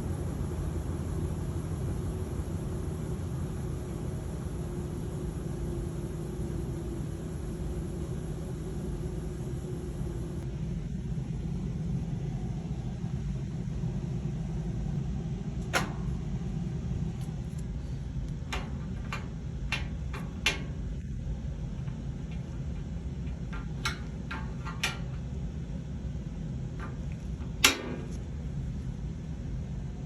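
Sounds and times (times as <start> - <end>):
hum: 0.0 - 30.0
washing machine rumbling: 0.0 - 30.0.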